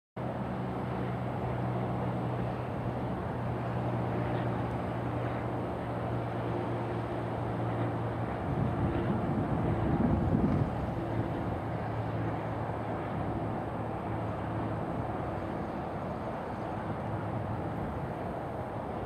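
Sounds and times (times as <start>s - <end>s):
jet engines droning: 0.2s - 19.0s.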